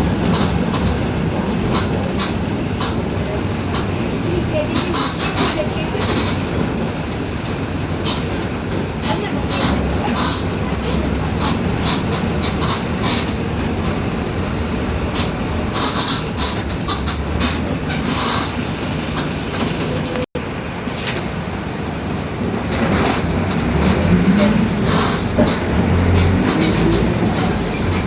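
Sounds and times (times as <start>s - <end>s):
bus body rattling: 0.0s - 28.0s
bus engine droning: 0.0s - 28.0s.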